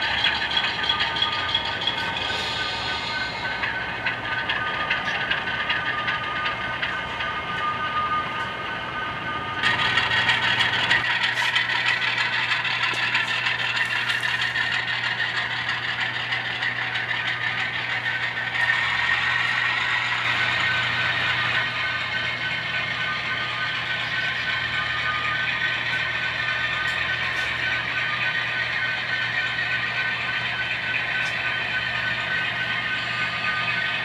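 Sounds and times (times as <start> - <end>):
model train wheels clattering: 0.0 - 8.5, 9.6 - 34.0.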